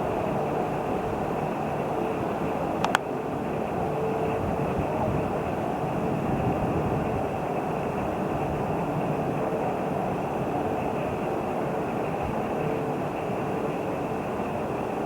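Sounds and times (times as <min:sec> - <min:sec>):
faint steady hum: 0:00.0 - 0:15.0
rail noise: 0:00.0 - 0:15.0
train rumbling past: 0:00.0 - 0:15.0.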